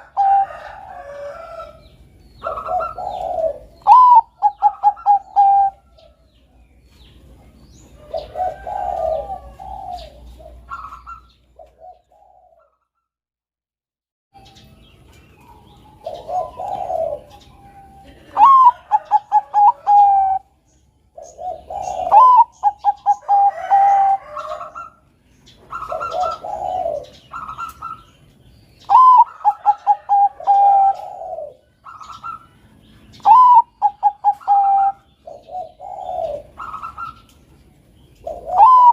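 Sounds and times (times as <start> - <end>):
dove cooing: 0.0 - 6.3, 7.2 - 12.8, 15.4 - 28.2, 28.8 - 38.9.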